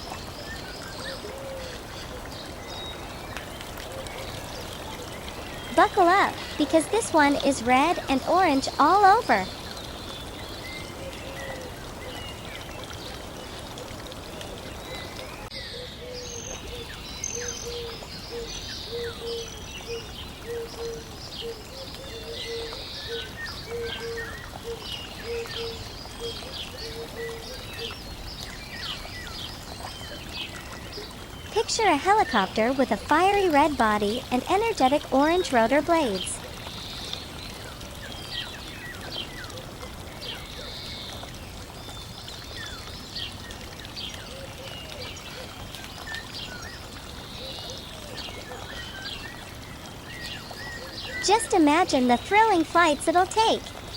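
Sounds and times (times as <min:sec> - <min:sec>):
birds chirping and twittering: 0:00.0 - 0:53.9
rushing water: 0:00.0 - 0:53.9.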